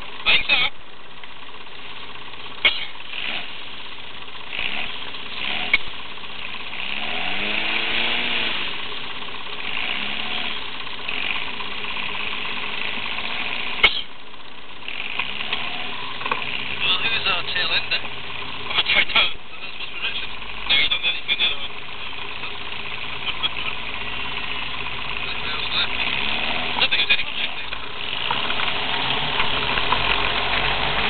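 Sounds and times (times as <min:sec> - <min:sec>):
sports car engines idling: 0:00.0 - 0:31.0
engine revving: 0:02.5 - 0:14.1, 0:14.7 - 0:31.0.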